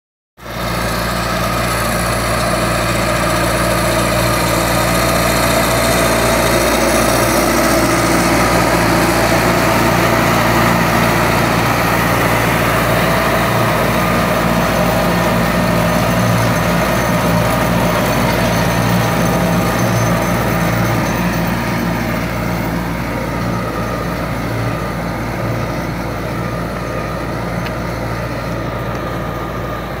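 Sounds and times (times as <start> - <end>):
tractor diesel engine under load: 0.4 - 30.0.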